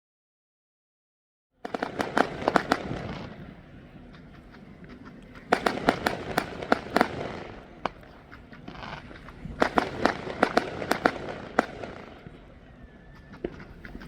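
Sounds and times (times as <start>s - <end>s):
fireworks cracking and banging: 1.6s - 14.0s.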